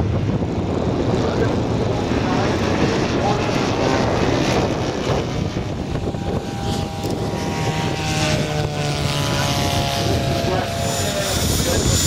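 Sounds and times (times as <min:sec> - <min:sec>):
model aircraft engine drone: 0:00.0 - 0:12.0.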